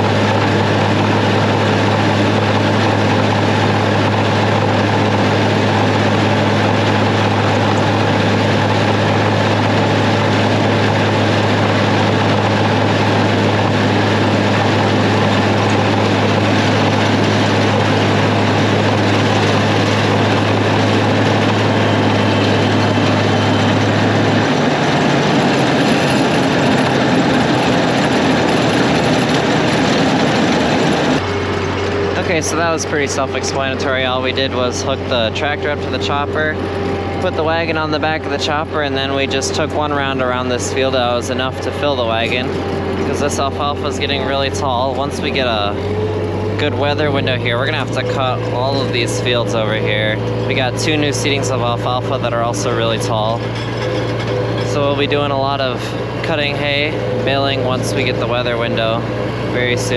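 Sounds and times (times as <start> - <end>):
deep steady hum: 0.0 - 59.9
forage chopper running: 0.0 - 59.9.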